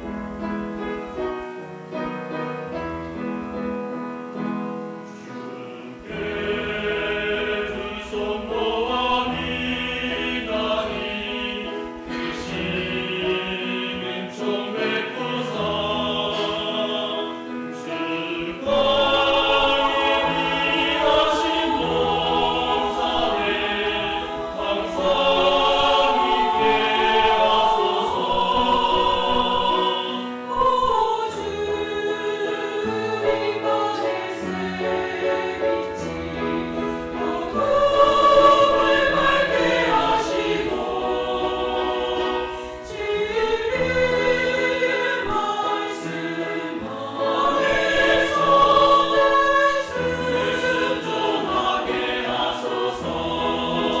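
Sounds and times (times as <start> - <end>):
church choir singing: 0.0 - 54.0.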